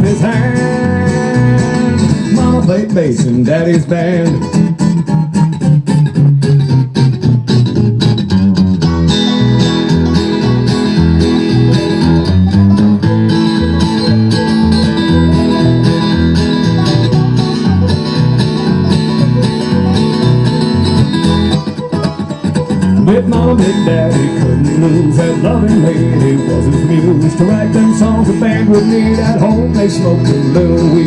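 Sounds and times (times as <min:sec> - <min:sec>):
bluegrass band playing: 0:00.0 - 0:31.0.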